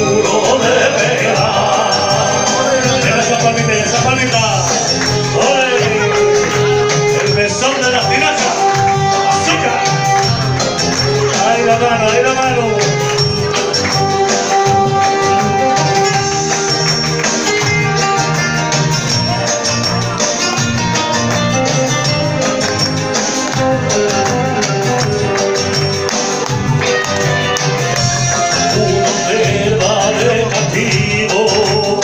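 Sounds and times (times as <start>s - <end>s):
rumba backing track: 0.0s - 32.0s.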